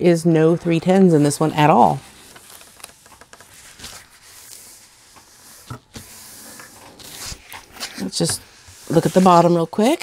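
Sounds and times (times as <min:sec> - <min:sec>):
paper and canvas rustling: 0:00.4 - 0:10.0.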